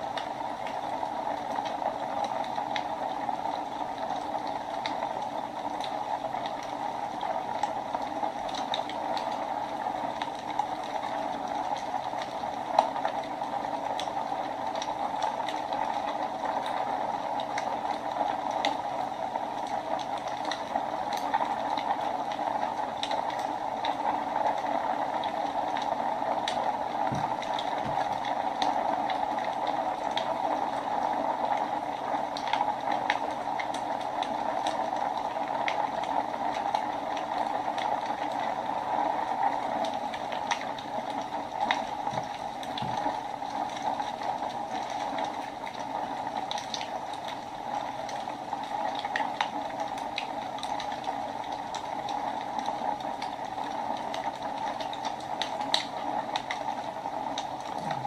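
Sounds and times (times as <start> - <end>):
wood crackling and popping: 0.0 - 58.0.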